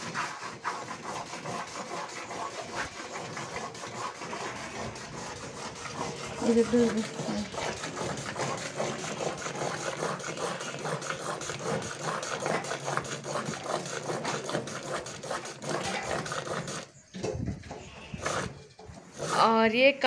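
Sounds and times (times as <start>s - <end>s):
milk squirting into bucket: 0.0s - 17.0s, 17.8s - 19.3s.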